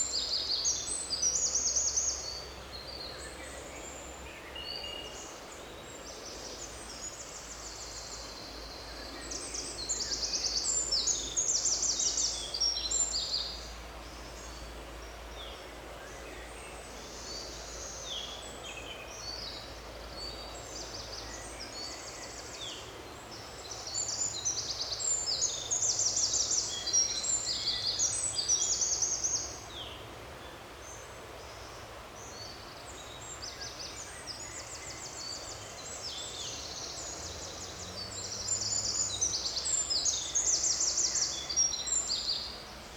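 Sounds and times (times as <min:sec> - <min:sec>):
soft steady hiss: 0:00.0 - 0:42.9
songbirds trilling and chirping: 0:00.0 - 0:42.9.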